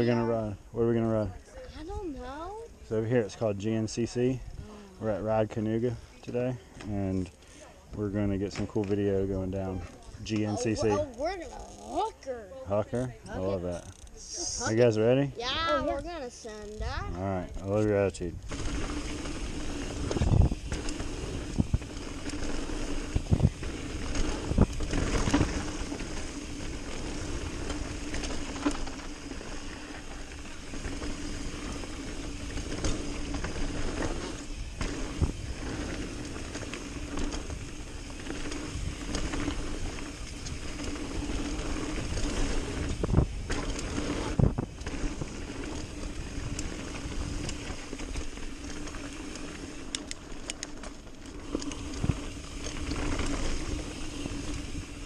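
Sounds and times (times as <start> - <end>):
bike tyres rolling on dirt: 0.0 - 12.0, 12.9 - 55.0
bike knocking and rattling: 5.4 - 12.1, 16.6 - 55.0.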